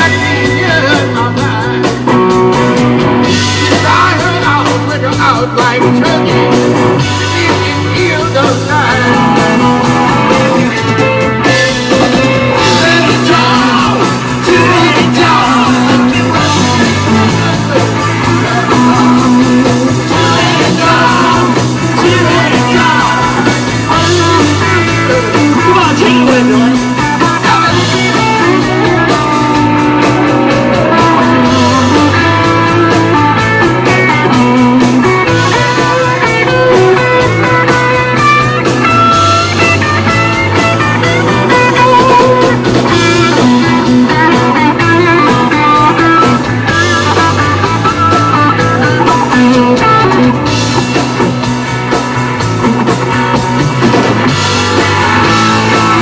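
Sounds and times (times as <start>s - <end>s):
man singing lead vocals: 0.0s - 50.8s
live rock band playing: 0.0s - 56.0s.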